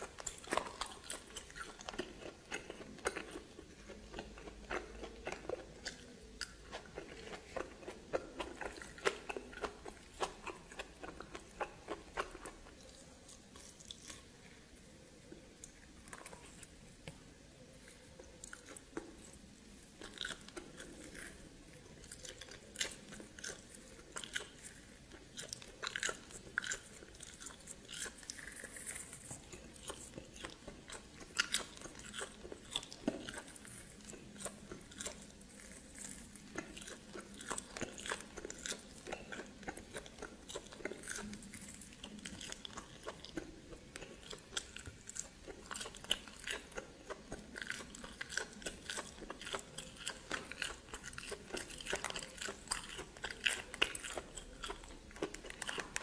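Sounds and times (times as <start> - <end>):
person biting and chewing: 0.0 - 14.4, 18.1 - 56.0.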